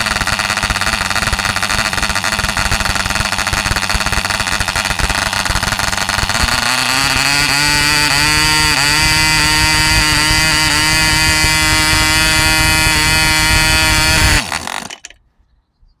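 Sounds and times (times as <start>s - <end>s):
model engine buzzing at high revs: 0.0s - 15.2s.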